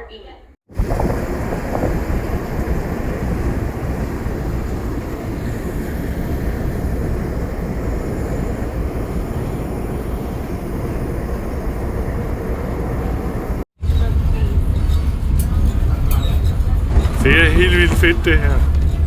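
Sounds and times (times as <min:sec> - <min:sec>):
passenger train rumbling: 0:00.0 - 0:19.0.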